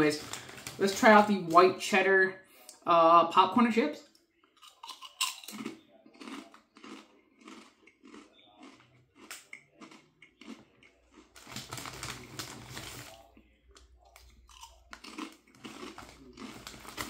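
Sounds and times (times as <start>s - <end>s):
person chewing crunchy chips: 0.0s - 1.5s, 4.6s - 17.0s.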